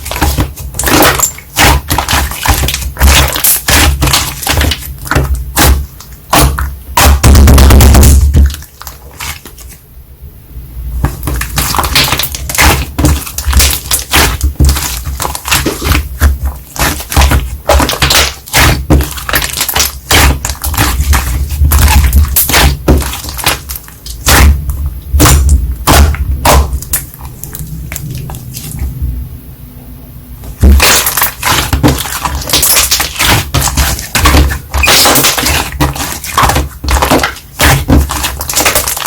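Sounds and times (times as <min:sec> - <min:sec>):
slime crackling and popping: 0:00.0 - 0:09.7, 0:11.0 - 0:28.8, 0:30.6 - 0:39.0.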